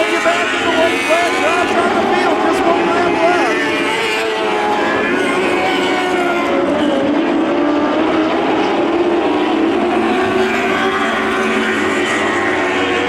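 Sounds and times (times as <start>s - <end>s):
racing car engines high-revving: 0.0s - 13.0s.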